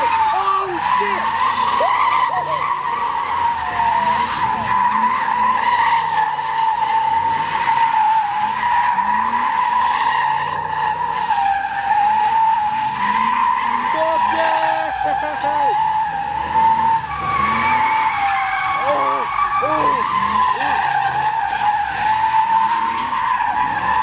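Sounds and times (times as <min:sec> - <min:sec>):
car engine revving: 0:00.0 - 0:24.0
tyres squealing: 0:00.0 - 0:24.0.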